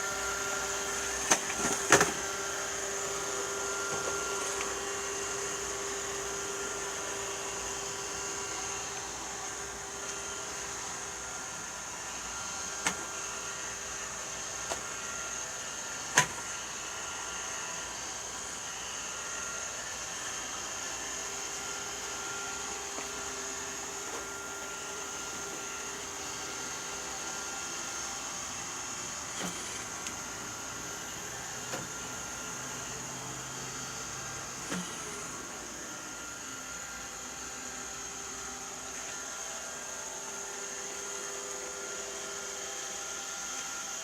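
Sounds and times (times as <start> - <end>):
robot vacuum cleaner whining: 0.0 - 44.0.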